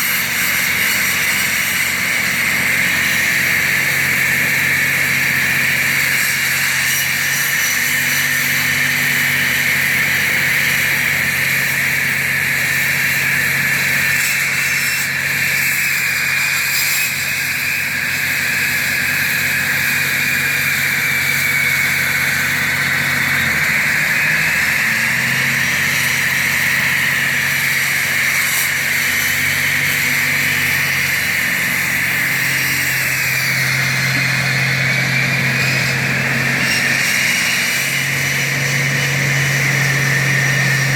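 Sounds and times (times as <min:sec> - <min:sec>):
concrete saw blade whining: 0:00.0 - 0:40.9
saw engine drone: 0:00.0 - 0:40.9.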